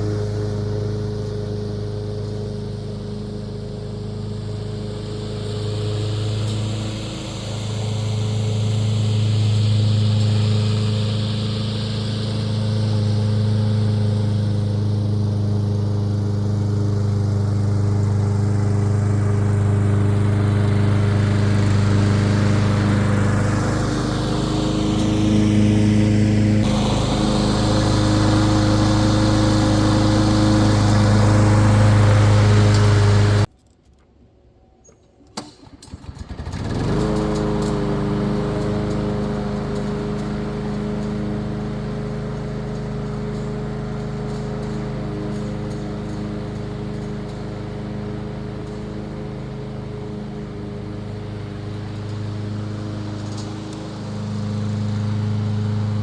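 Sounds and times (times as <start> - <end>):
lawn mower cutting grass: 0.0 - 33.5, 35.4 - 56.0.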